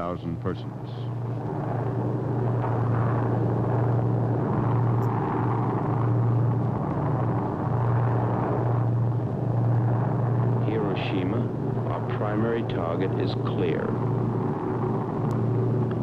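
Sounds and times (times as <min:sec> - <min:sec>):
aircraft piston engines droning: 0:00.0 - 0:16.0.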